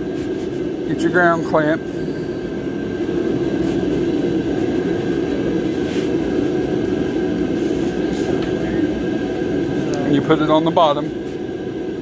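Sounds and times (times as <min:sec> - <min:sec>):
machine drone with high whine: 0:00.0 - 0:12.0.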